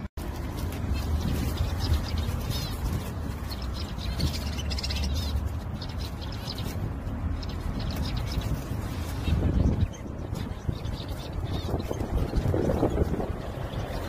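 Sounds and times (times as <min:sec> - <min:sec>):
finches chirping: 0:00.4 - 0:14.0.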